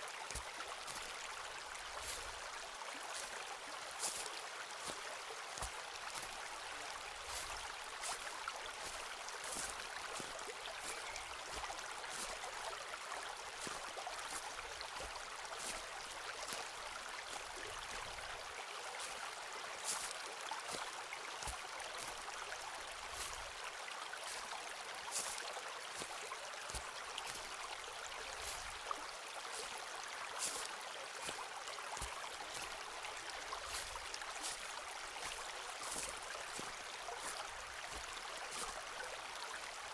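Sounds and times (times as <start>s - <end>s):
running water: 0.0s - 39.9s
footsteps crunching on forest path: 0.2s - 39.9s.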